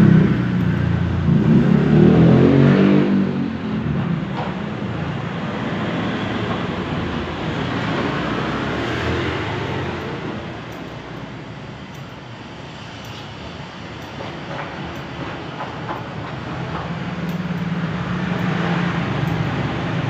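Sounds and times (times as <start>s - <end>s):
road traffic rushing: 0.0s - 20.0s.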